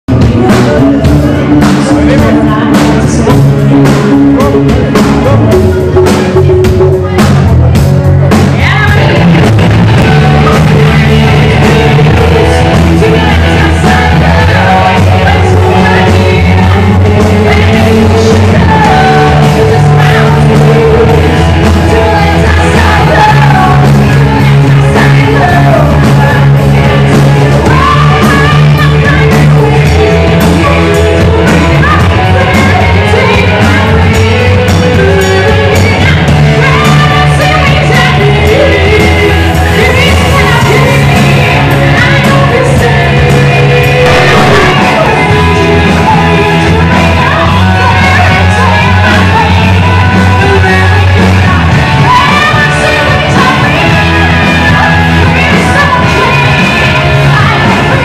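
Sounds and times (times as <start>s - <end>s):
bass holding long notes: 0.0s - 58.0s
live rock band playing: 0.1s - 58.0s
person singing: 0.1s - 58.0s.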